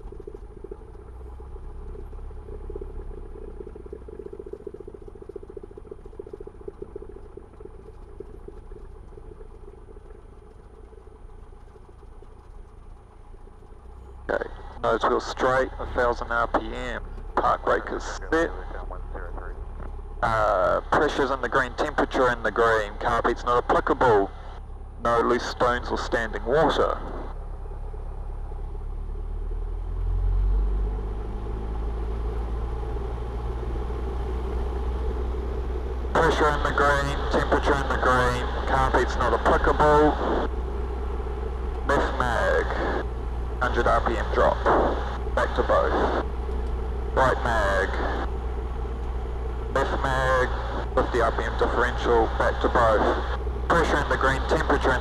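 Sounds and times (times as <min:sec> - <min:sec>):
aircraft engine idling: 0:00.0 - 0:55.0.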